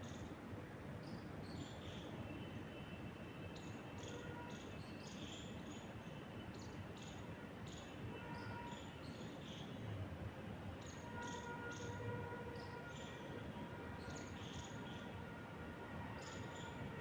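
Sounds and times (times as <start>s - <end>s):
soft wind through trees: 0.0s - 17.0s.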